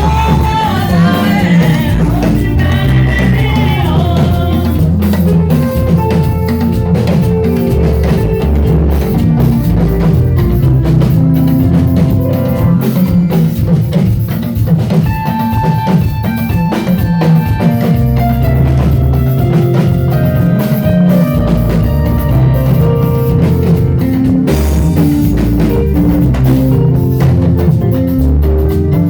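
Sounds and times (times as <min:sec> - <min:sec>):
deep bass line: 0:00.0 - 0:13.7, 0:17.6 - 0:29.0
held melodic notes: 0:00.0 - 0:14.2, 0:15.0 - 0:29.0
drum kit beat: 0:00.0 - 0:29.0.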